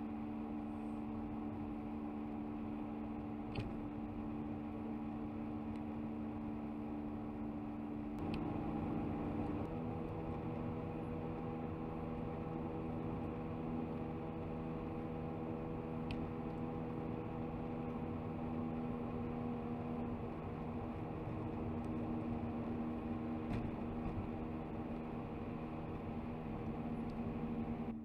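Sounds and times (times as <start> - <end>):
car road and engine noise: 0.0 - 28.0
constant low hum: 0.0 - 28.0.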